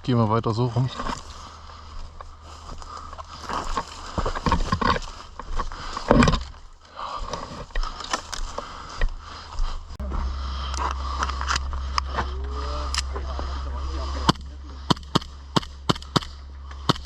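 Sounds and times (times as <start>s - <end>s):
low rumble: 0.0s - 17.0s
clothing and kit rustling: 0.8s - 14.7s
footsteps: 0.8s - 17.0s.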